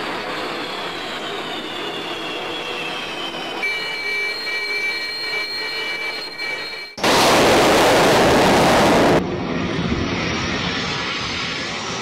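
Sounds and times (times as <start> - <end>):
jet engine rush: 0.0 - 5.9, 7.0 - 12.0
high turbine whine: 0.0 - 12.0
steady high whines: 0.0 - 12.0.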